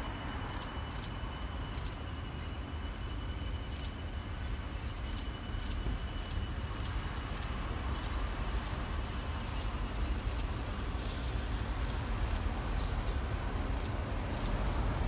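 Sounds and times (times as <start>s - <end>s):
diesel locomotive rumble: 0.0s - 15.0s
faint regular ticks: 0.2s - 15.0s.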